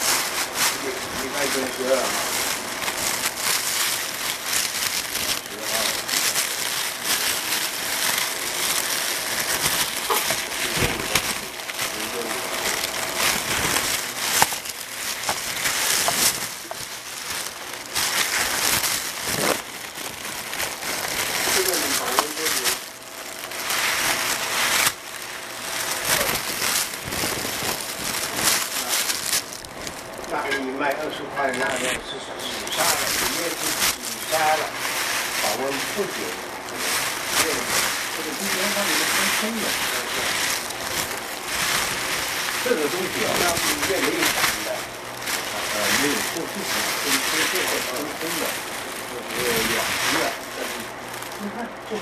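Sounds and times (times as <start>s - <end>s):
loud rustling and crackling: 0.0s - 52.0s.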